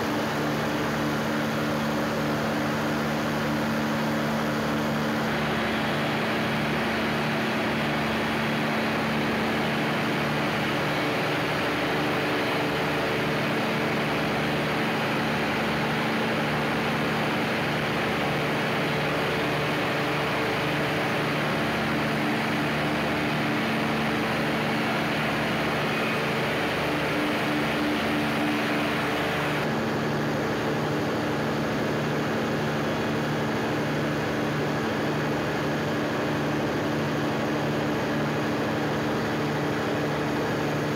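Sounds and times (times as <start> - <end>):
diesel generator engine droning: 0.0 - 40.9.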